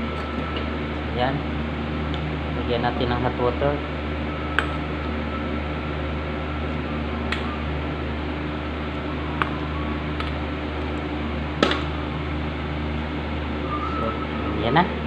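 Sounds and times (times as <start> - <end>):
fan-like hum and hiss: 0.0 - 15.0.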